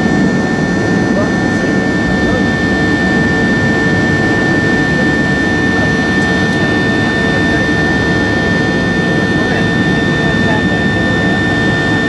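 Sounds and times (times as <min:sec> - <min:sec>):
high-pitched engine whine: 0:00.0 - 0:12.0
jet engine roar in cabin: 0:00.0 - 0:12.0.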